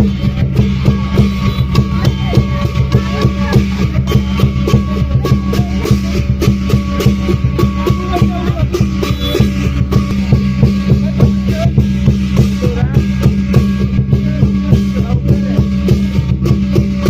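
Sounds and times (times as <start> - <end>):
sharp cymbal-like hits: 0.0 - 17.0
steady drum beat: 0.0 - 17.0.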